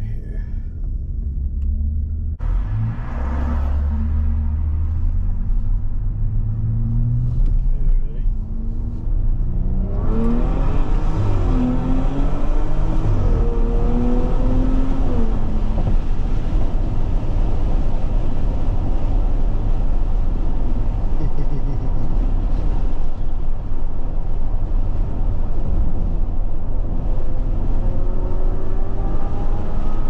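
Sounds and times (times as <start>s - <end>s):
road noise: 0.0s - 30.0s
car engine accelerating hard: 0.9s - 23.2s, 25.1s - 30.0s.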